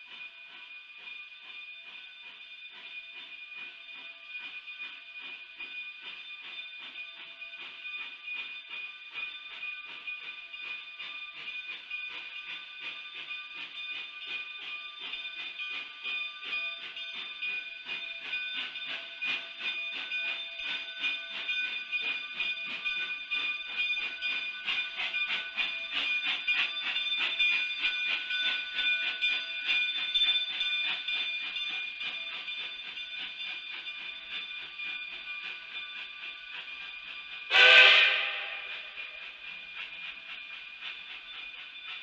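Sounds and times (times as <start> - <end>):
high-pitched ringing tones: 0.0 - 42.0
rolling train clatter: 0.0 - 42.0.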